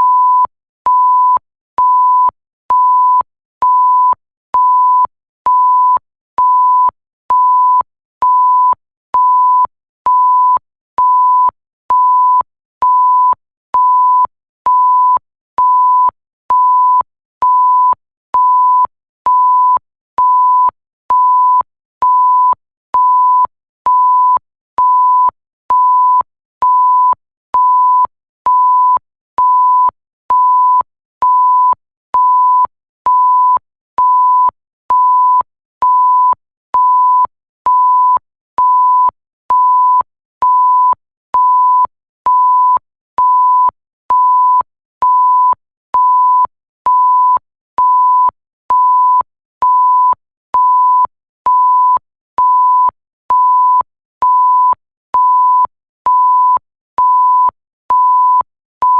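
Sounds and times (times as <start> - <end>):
electronic censor bleep: 0.0 - 58.9.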